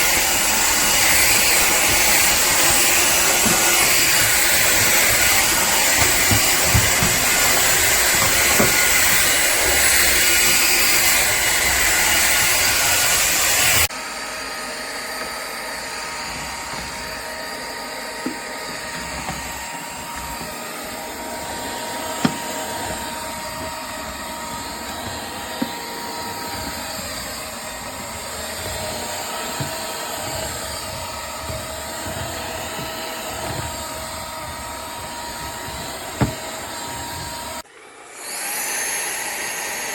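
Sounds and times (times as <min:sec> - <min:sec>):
stick vacuum running: 0:00.0 - 0:39.9.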